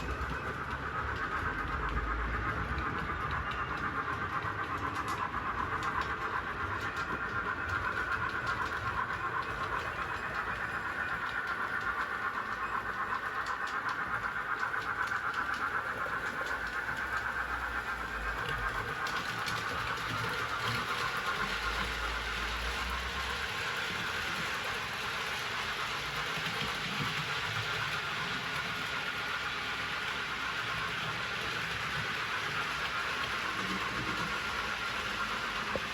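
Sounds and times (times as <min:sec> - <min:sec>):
model train motor whine: 0:00.0 - 0:35.9
wheels ticking over track: 0:00.0 - 0:35.9.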